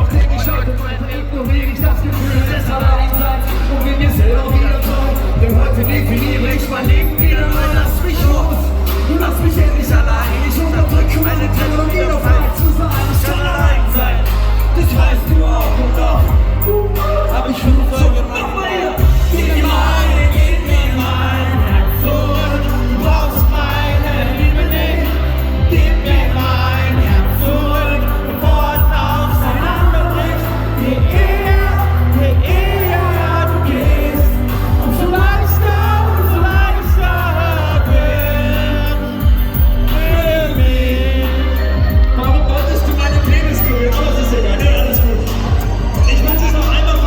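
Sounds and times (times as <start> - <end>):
band with heavy bass: 0.0 - 47.0
person singing: 0.0 - 47.0.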